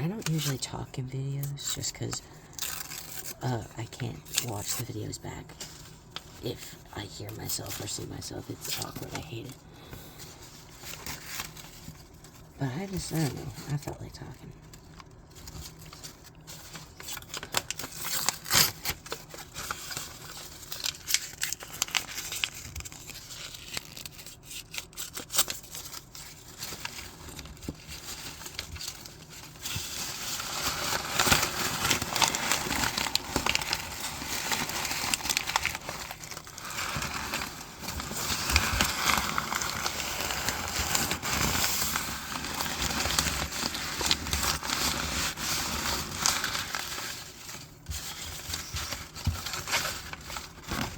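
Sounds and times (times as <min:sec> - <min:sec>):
paper tearing and crumpling: 0:00.0 - 0:50.9.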